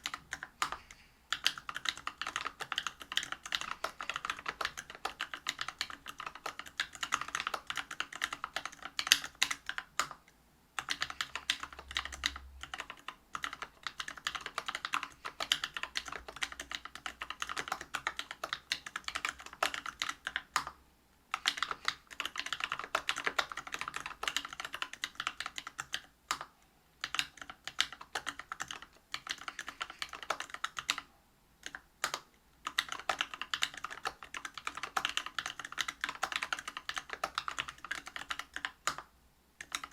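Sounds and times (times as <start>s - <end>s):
fast typing on mechanical keyboard: 0.0s - 10.2s, 10.8s - 39.9s.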